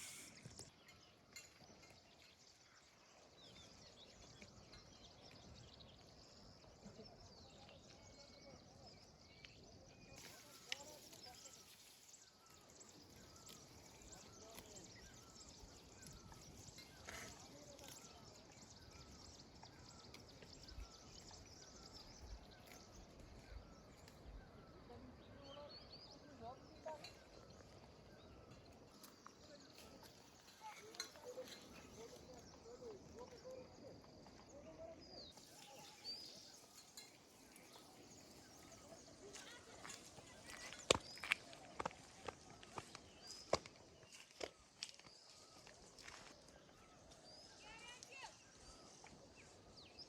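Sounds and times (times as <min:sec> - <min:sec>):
faint rural outdoor ambience: 0:00.0 - 0:50.0
small birds chirping: 0:00.0 - 0:50.0.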